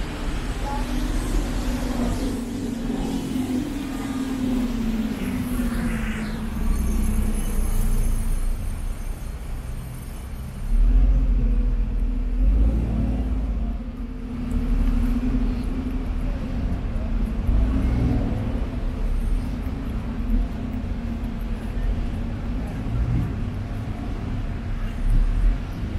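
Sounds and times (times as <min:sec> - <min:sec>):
vehicles rumbling past: 0:00.0 - 0:25.9.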